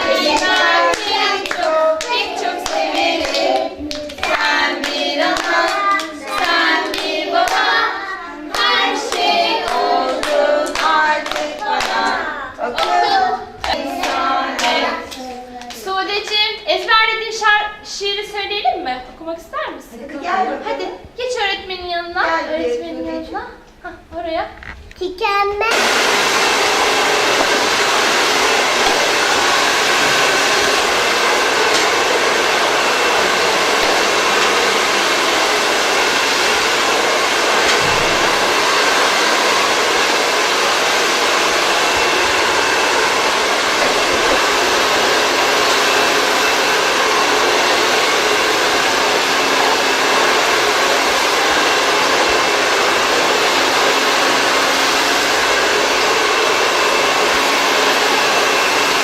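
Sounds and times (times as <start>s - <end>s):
hair dryer running: 0.0s - 18.6s, 25.6s - 59.0s.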